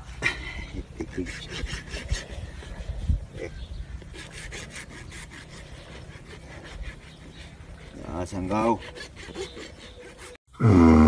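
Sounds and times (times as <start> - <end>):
horse teeth scraping over shirt: 1.2 - 10.4.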